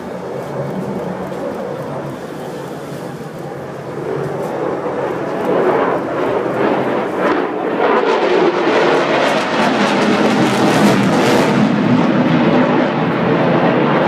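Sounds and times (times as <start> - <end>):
fighter jet flying overhead: 0.0 - 14.0.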